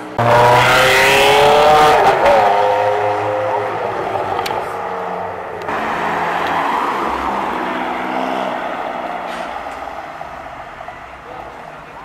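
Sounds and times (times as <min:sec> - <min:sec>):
car accelerating away: 0:00.0 - 0:10.9.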